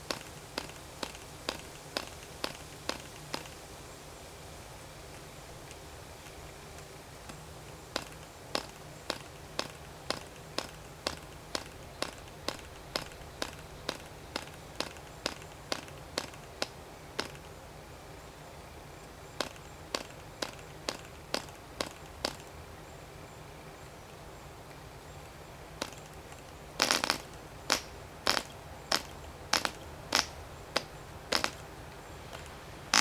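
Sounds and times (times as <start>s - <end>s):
sharp clicks: 0.0s - 3.6s, 5.2s - 17.6s, 19.4s - 22.6s, 25.2s - 33.0s.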